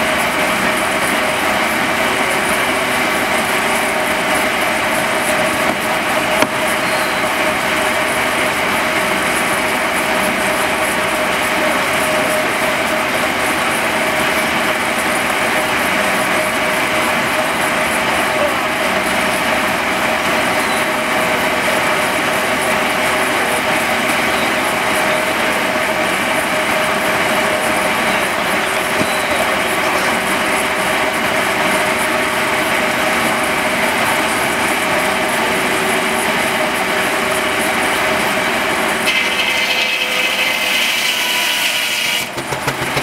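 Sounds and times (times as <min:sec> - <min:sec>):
circular saw and belt whine: 0:00.0 - 0:42.5.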